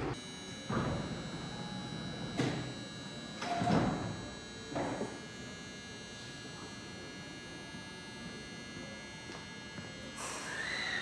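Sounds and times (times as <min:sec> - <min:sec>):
train electrical hum: 0:00.0 - 0:11.0.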